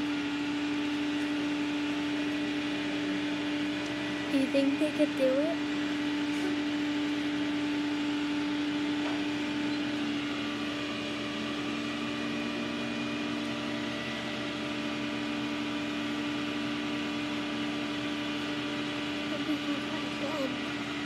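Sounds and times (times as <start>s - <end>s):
truck engine hum: 0.0s - 21.0s.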